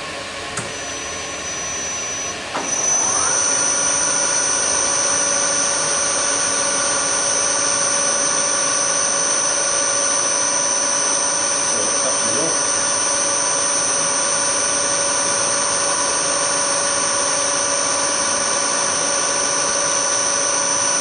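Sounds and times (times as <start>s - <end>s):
milling machine spindle whine: 0.0s - 21.0s.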